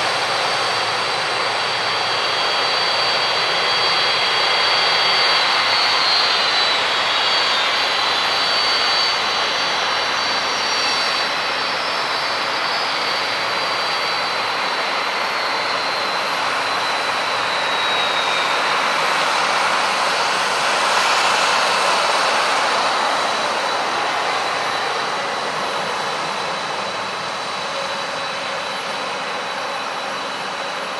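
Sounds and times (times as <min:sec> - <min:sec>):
airliner engines roaring: 0:00.0 - 0:30.9.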